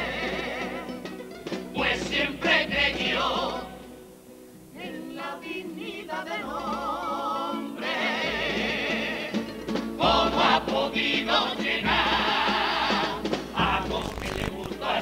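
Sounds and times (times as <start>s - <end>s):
men singing in harmony: 0.0s - 1.0s, 1.7s - 3.9s, 4.8s - 15.0s.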